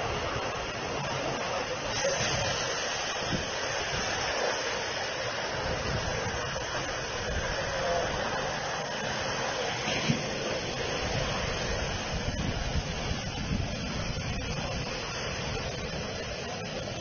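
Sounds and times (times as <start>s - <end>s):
violent storm wind rushing: 0.0s - 17.0s.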